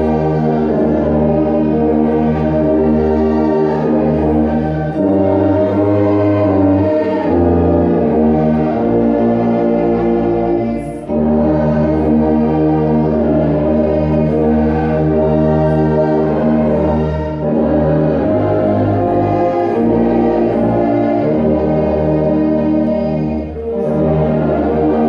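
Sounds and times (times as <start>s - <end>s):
pitched parts playing chords: 0.0s - 25.0s
tuba playing long low notes: 0.0s - 25.0s.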